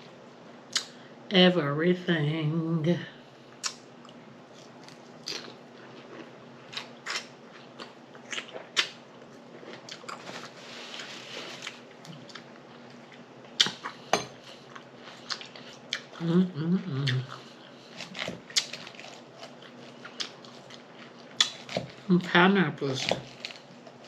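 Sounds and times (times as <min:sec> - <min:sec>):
faint steady hum: 0:00.0 - 0:24.0
chewing salad: 0:03.6 - 0:24.0.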